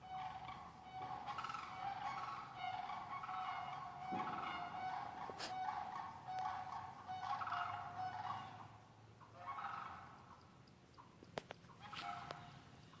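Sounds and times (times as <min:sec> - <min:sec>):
cranes calling: 0:00.0 - 0:13.0.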